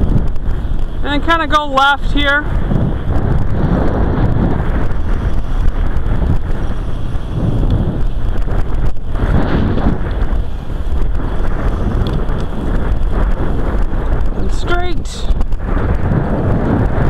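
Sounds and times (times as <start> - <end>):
tyres rolling on asphalt: 0.0 - 17.0
wind buffeting microphone: 0.0 - 17.0.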